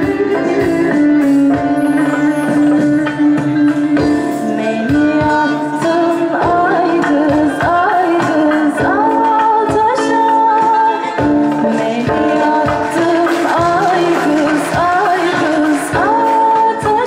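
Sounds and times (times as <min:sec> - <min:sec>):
girl singing into microphone: 0:00.0 - 0:17.0
live band playing: 0:00.0 - 0:17.0
steady percussion beat: 0:00.0 - 0:17.0.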